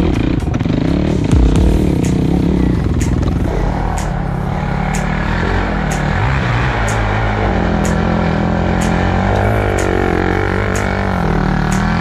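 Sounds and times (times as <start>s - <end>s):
background music with light beat: 0.0s - 12.0s
quad bike engine idling: 0.0s - 12.0s.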